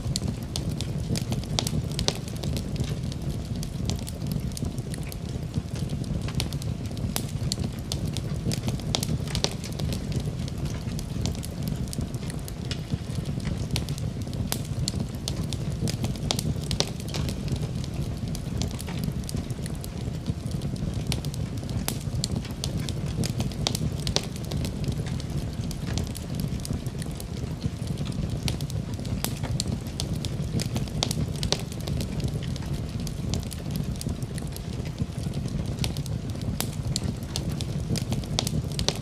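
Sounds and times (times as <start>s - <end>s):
fire burning with crackles: 0.0s - 39.0s.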